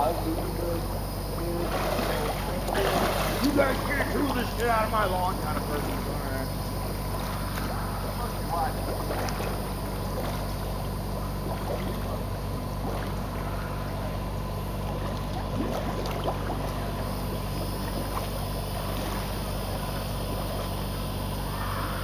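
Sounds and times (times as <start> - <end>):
steady low hum: 0.0 - 22.0
water splashing and bubbling: 0.0 - 22.0.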